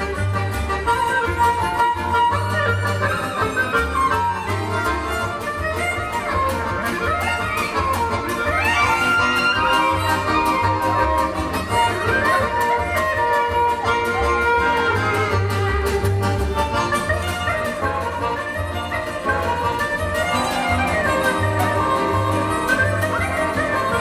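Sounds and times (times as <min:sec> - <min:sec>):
clarinet: 0:00.0 - 0:24.0
plucked double bass: 0:00.0 - 0:24.0
violin: 0:00.0 - 0:24.0.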